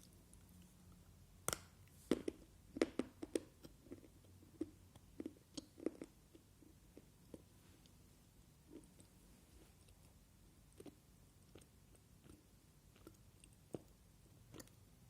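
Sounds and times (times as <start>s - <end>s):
crunching and chewing clay: 0.0s - 15.0s.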